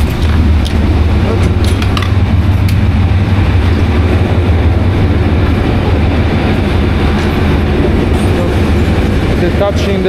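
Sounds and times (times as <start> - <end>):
diesel locomotive running: 0.0 - 10.0.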